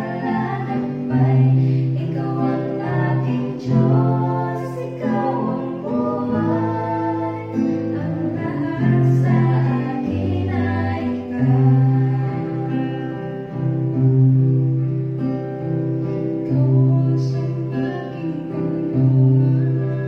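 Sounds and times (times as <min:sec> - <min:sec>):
young voices singing gospel song: 0:00.0 - 0:13.6, 0:16.4 - 0:20.0
acoustic guitar strumming: 0:00.0 - 0:20.0.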